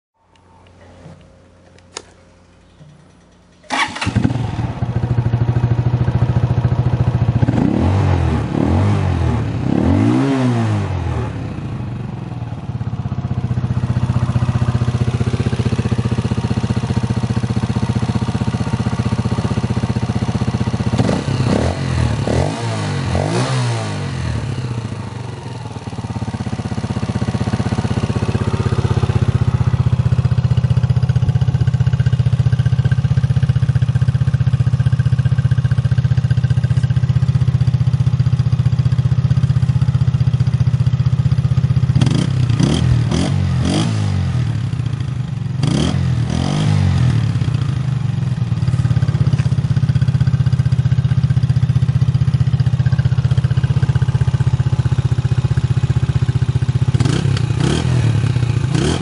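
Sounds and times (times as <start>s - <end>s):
motorcycle engine idling and revving: 2.6s - 59.0s.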